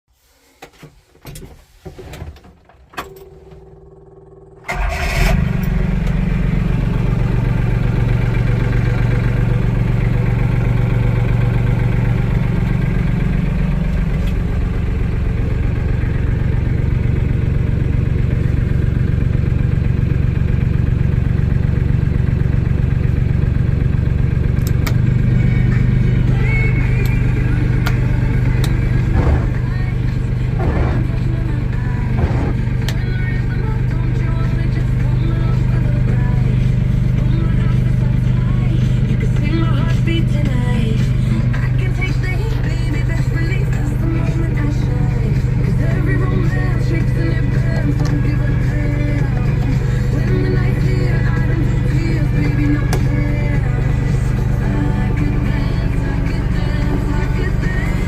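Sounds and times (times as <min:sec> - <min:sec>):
tractor diesel engine running: 0:01.0 - 0:58.0.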